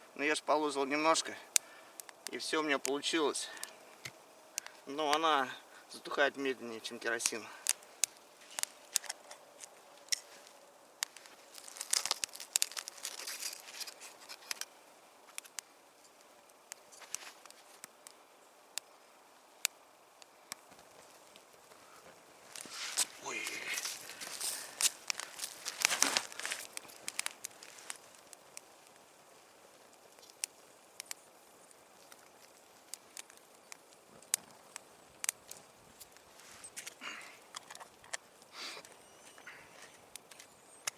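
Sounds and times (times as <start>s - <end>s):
faint hiss: 0.0s - 40.9s
campfire crackling and popping: 0.1s - 40.9s.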